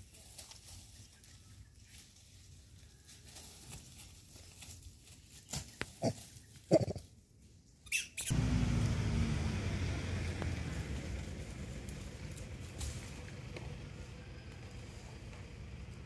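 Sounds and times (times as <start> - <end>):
rustling in dry leaves: 0.0 - 16.0.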